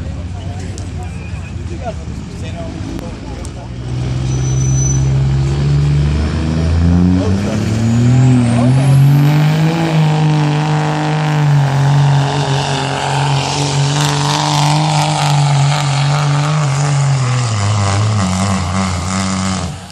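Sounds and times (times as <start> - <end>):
truck engine at high revs: 0.0 - 19.9.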